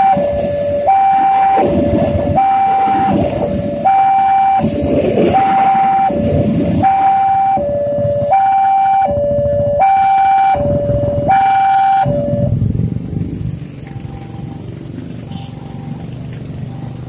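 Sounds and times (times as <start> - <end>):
low rumble: 0.0 - 15.3
two-tone crossing alarm: 0.0 - 17.0.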